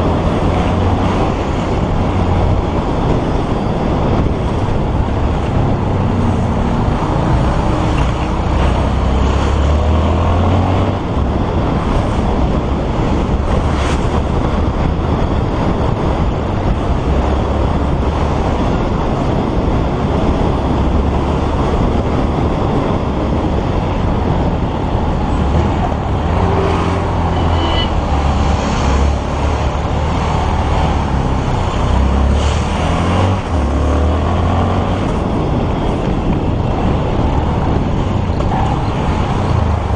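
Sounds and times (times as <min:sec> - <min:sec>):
passing road traffic: 0:00.0 - 0:39.9
wind rush on microphone: 0:00.0 - 0:39.9.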